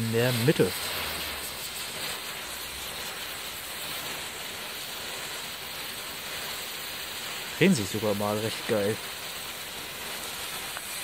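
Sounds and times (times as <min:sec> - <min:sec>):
ground firework hissing: 0:00.0 - 0:11.0.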